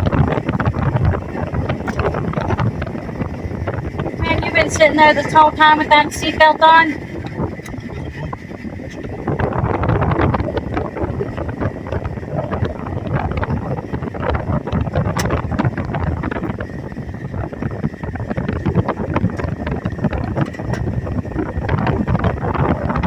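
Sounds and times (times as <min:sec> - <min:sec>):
vehicle rumble: 0:00.0 - 0:23.0
wind buffeting microphone: 0:00.0 - 0:23.0.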